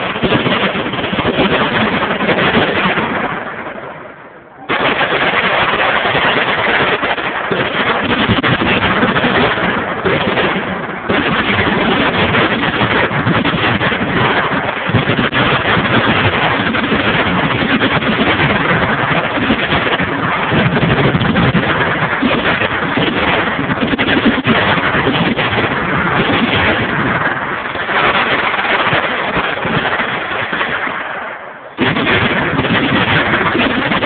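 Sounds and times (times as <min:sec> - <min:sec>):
machine guns firing: 0:00.0 - 0:04.0, 0:04.7 - 0:34.0.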